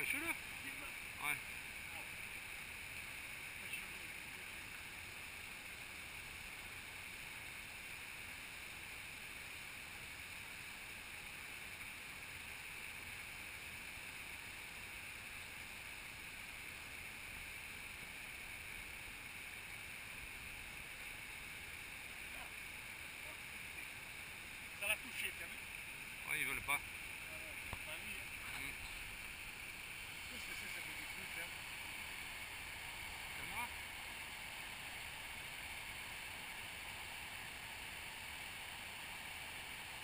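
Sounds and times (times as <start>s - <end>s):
flowing river water: 0.0s - 40.0s.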